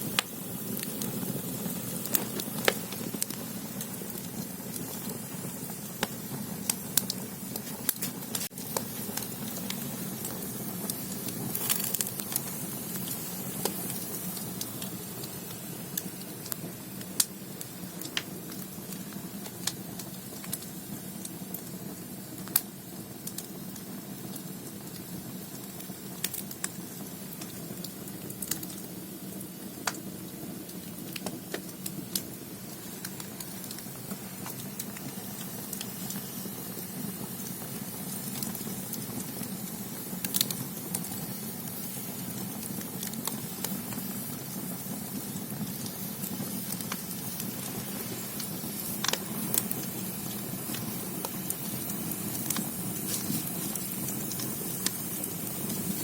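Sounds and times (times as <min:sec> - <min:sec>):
firewood crackling and popping: 0:00.0 - 0:56.0
low roar of flames: 0:00.0 - 0:56.0.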